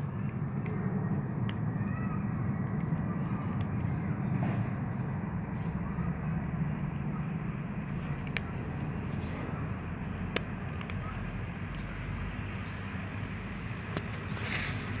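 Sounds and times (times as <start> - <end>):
street background rumble: 0.0 - 15.0.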